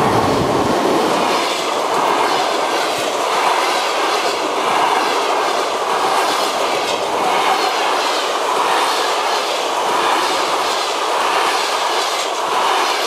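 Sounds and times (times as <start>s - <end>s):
train wheels rushing on rails: 0.0s - 13.0s
wheels clicking over rail joints: 0.0s - 13.0s.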